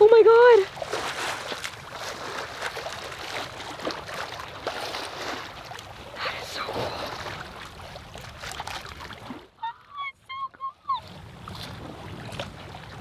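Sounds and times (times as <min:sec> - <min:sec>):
water moving along hull: 0:00.0 - 0:13.0.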